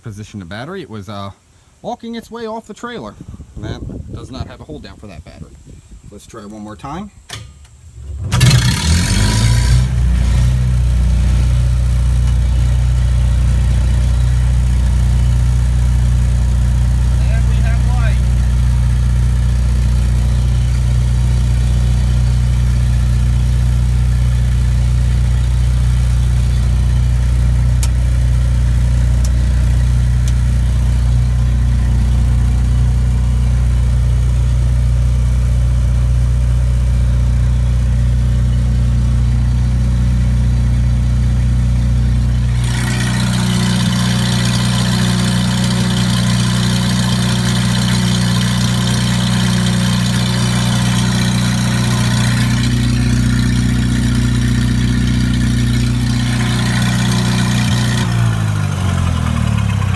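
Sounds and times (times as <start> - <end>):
generator engine running: 8.0 - 59.9.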